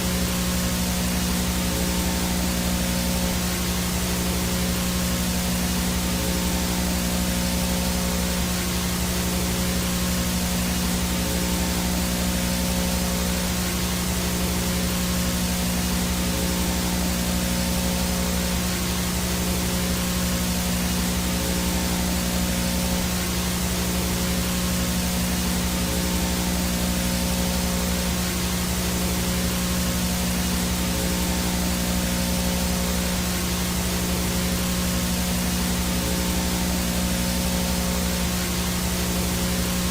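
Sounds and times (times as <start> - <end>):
low electrical hum: 0.0 - 39.9
static hiss: 0.0 - 39.9.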